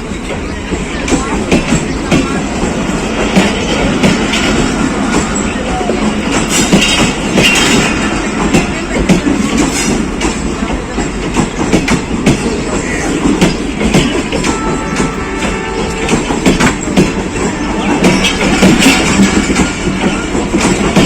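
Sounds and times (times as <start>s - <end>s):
train wheels rumbling on track: 0.0s - 21.0s
wheels clicking over rail joints: 0.0s - 21.0s.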